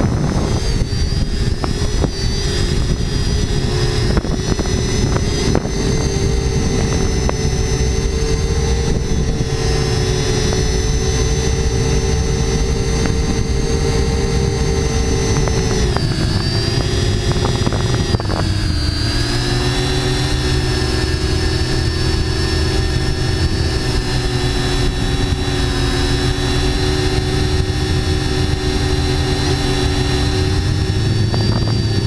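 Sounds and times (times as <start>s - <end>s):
drone propellers whining: 0.0s - 32.0s
low rumble: 0.0s - 32.0s.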